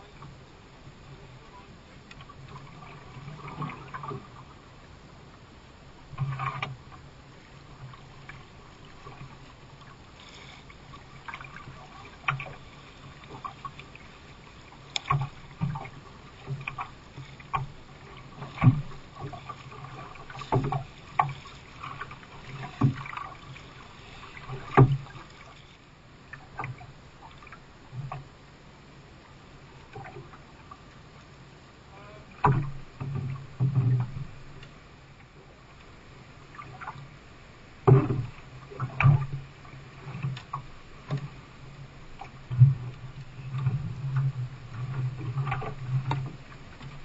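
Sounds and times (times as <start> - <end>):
paddle splashes: 0.0 - 28.5, 29.5 - 47.0
water noise: 0.0 - 47.0.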